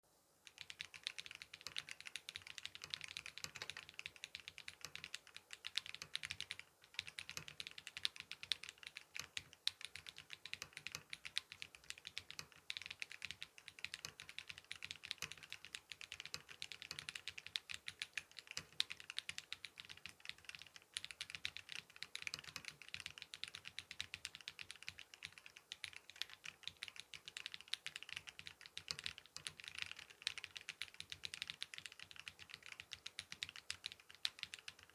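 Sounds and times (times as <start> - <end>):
fast typing on mechanical keyboard: 0.5 - 34.9.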